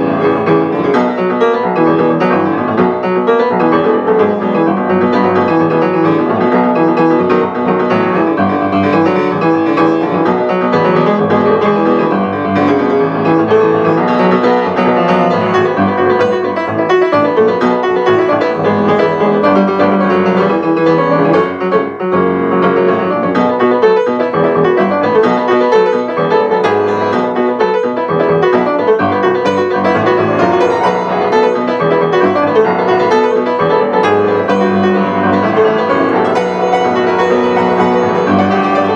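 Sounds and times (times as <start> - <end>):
solo grand piano playing: 0.0 - 38.9.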